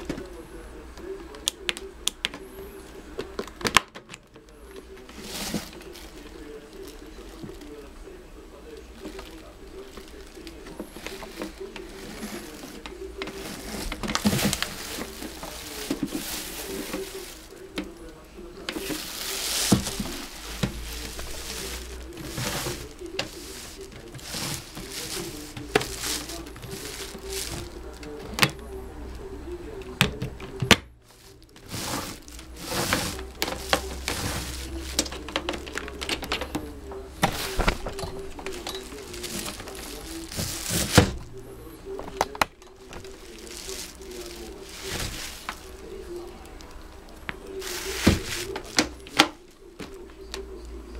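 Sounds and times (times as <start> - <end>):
rustling and clatter: 3.2 - 7.9, 8.8 - 28.6, 30.0 - 50.5.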